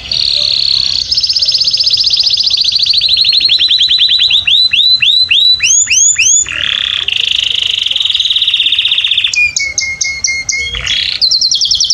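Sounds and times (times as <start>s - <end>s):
finch singing trills: 0.0s - 11.9s.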